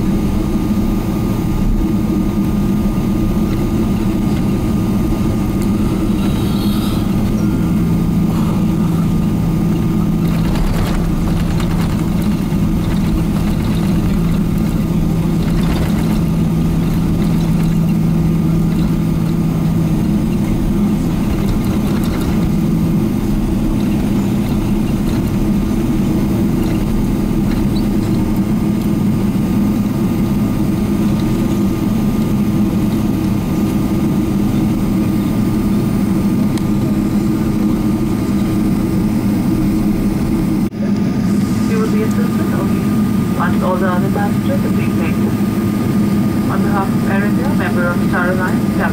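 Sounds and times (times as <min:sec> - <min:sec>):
airplane cabin engine noise: 0:00.0 - 0:48.9
low hum: 0:00.0 - 0:48.9.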